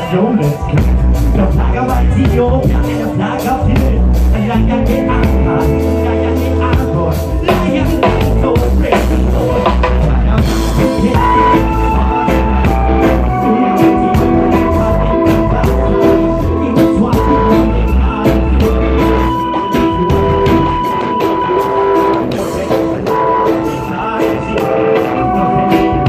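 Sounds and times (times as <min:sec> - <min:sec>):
drum kit beat: 0:00.0 - 0:26.0
electric bass line: 0:00.0 - 0:26.0
electric guitar: 0:00.0 - 0:26.0
keyboard: 0:00.0 - 0:26.0
man singing: 0:00.0 - 0:26.0.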